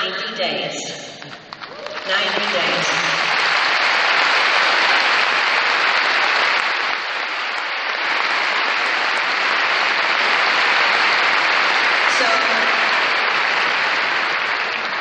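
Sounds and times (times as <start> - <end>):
audience applauding: 1.2 - 15.0.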